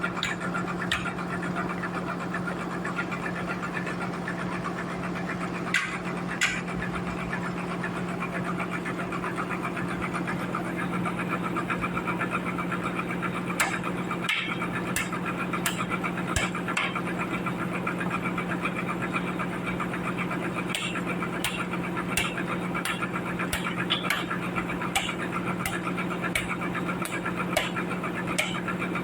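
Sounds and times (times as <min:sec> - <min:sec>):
sawmill engine hum: 0:00.0 - 0:29.0.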